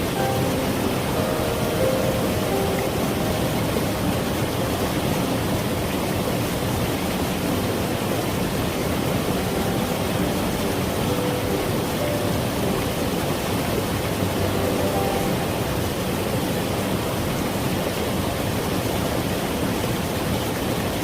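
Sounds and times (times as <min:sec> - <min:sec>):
gentle background music: 0:00.0 - 0:21.0
stream flowing: 0:00.0 - 0:21.0.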